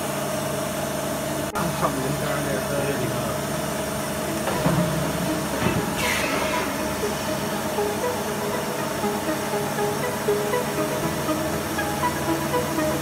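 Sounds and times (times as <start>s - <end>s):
lathe mechanical hum: 0.0s - 13.0s.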